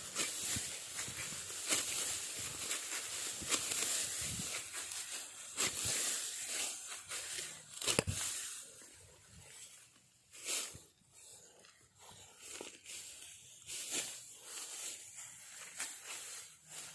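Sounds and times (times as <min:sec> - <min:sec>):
dry rice stalks rustling: 0:00.0 - 0:16.9.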